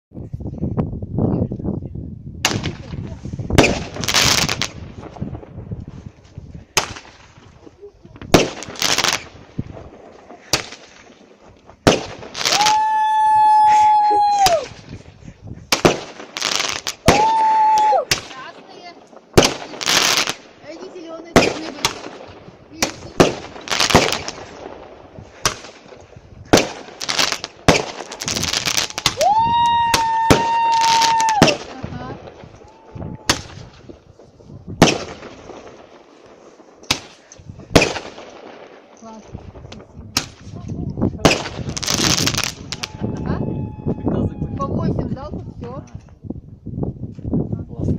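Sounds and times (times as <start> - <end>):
fireworks crackle: 2.4 - 43.8
fireworks bangs: 2.4 - 44.6.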